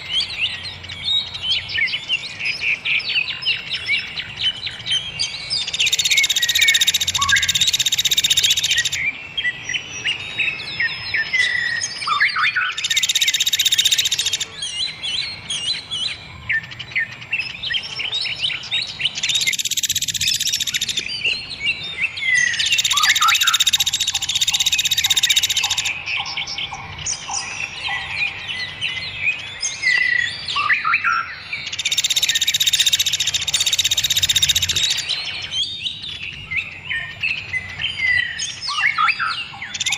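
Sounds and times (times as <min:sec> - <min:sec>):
loud buzzing bird trill: 0:00.0 - 0:39.9
songbirds singing: 0:00.0 - 0:39.9.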